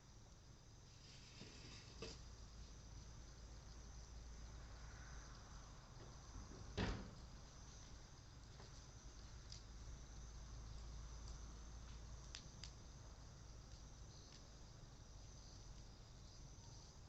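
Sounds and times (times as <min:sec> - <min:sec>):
insects chirring: 0:00.0 - 0:17.0
bonfire popping: 0:00.1 - 0:17.0.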